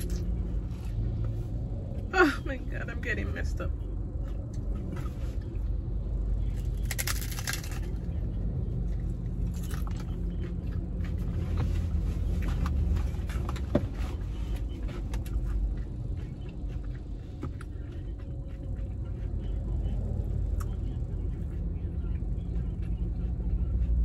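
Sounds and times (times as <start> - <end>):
car engine low rumble: 0.0 - 24.0
crunching hard-shell taco: 4.1 - 24.0.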